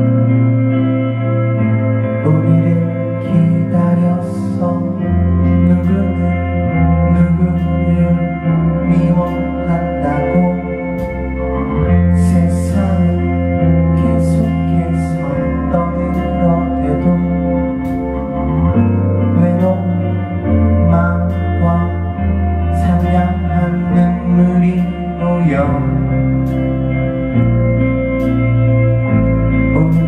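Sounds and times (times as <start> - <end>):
rock band playing slow song: 0.0 - 30.0.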